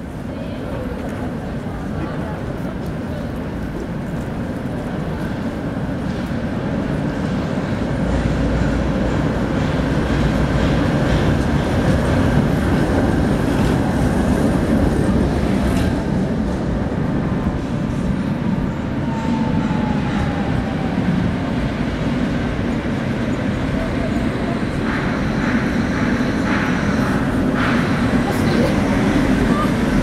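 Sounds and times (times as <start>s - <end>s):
city street noise: 0.0s - 30.0s
tram wheels and motors rumbling: 0.0s - 30.0s.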